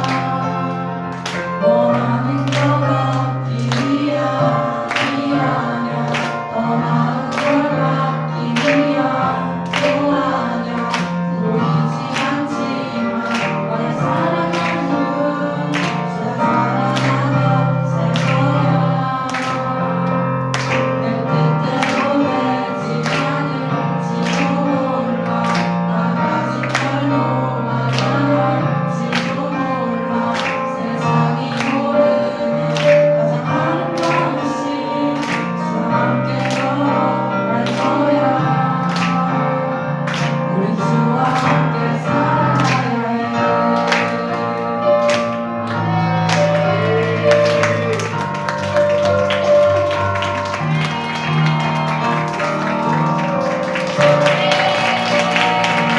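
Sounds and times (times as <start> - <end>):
group singing worship music: 0.0 - 55.9.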